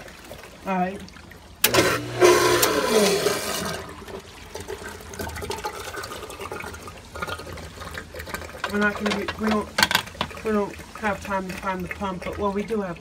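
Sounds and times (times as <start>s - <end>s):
water gushing and gurgling: 0.0s - 13.0s.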